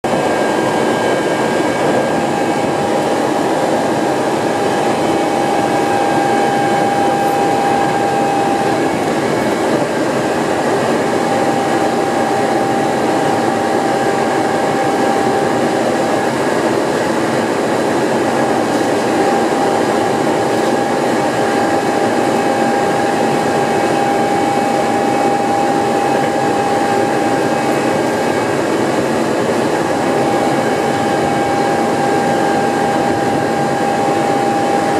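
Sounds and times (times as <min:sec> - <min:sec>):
train motor whine: 0:00.0 - 0:34.9
train wheels rumbling on rail: 0:00.0 - 0:34.9.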